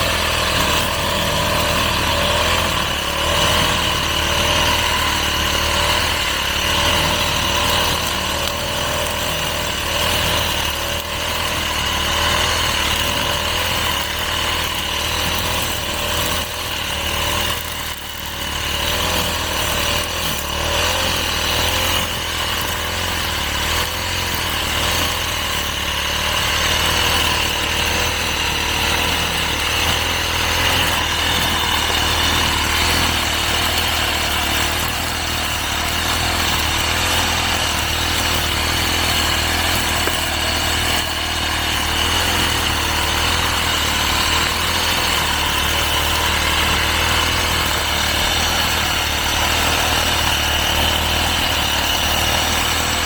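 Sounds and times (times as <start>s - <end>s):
brush cutter cutting grass: 0.0s - 53.0s.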